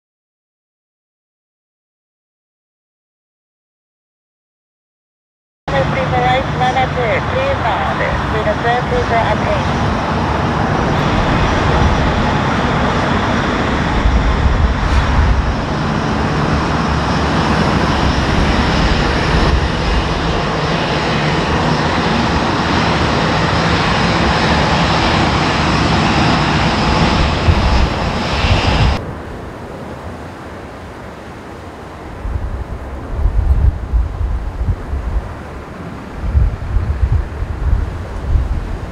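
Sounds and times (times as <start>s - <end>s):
jet engines running: 5.7s - 38.9s.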